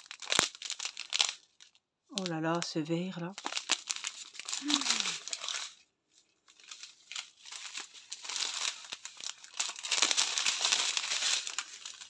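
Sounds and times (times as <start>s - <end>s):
plastic bags crinkling: 0.0s - 5.8s, 6.4s - 12.0s.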